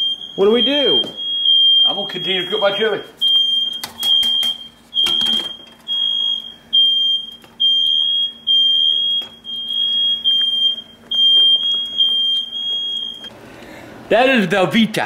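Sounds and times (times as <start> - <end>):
smoke alarm beeping: 0.0 - 13.3.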